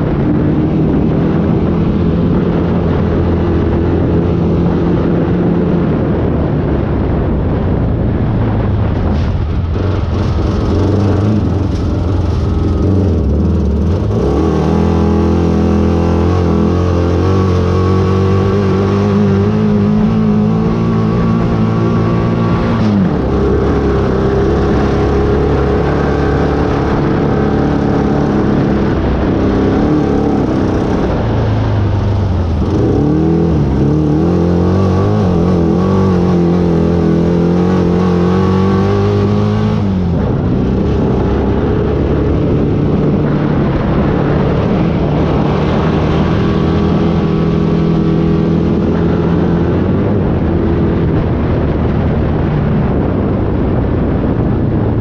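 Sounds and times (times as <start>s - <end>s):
race vehicle engine running hard: 0.0s - 55.0s
rush of driving noise: 0.0s - 55.0s.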